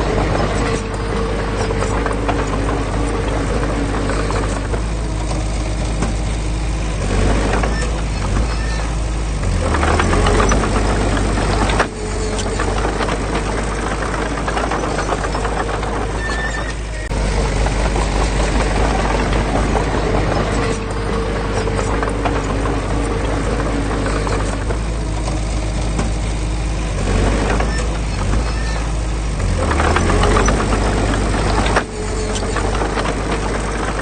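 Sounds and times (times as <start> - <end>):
diesel engine rumbling: 0.0 - 34.0
machine rattling and clanking: 0.0 - 34.0.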